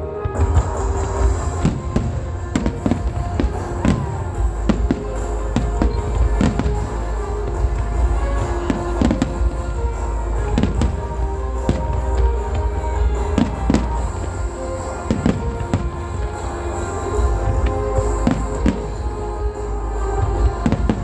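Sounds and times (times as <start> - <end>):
fireworks bangs: 0.0 - 19.5, 20.2 - 21.0
music playing: 0.0 - 21.0.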